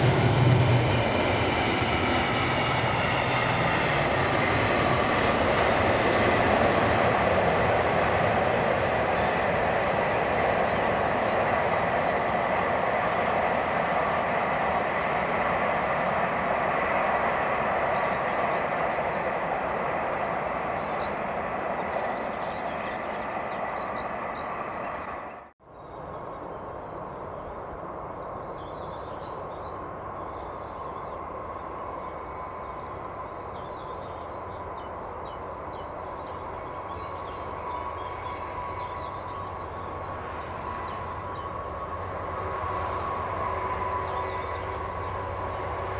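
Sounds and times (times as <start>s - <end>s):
diesel freight train approaching: 0.0s - 45.9s.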